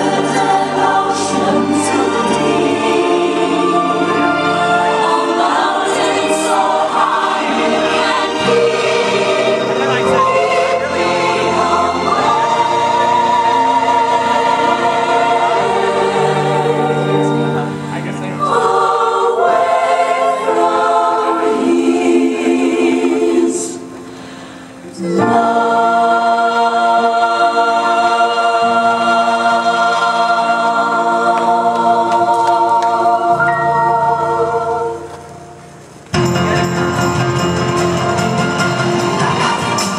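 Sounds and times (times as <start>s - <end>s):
choir singing gospel song: 0.0s - 35.5s, 38.6s - 39.9s.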